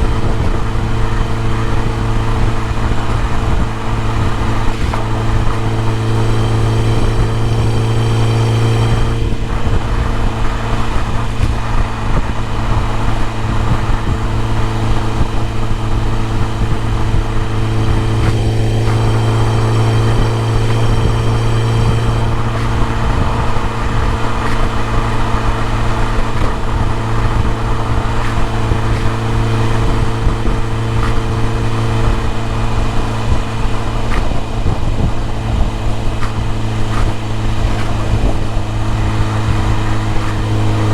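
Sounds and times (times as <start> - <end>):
car engine running steadily: 0.0 - 40.9.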